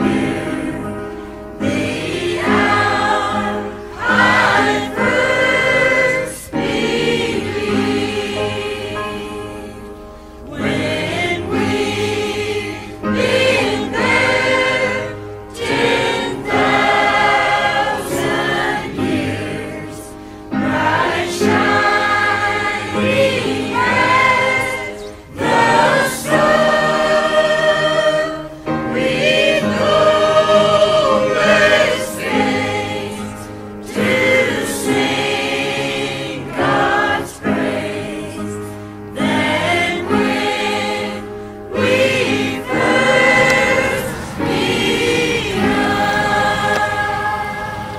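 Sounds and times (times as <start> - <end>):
choir singing a hymn: 0.0 - 47.9.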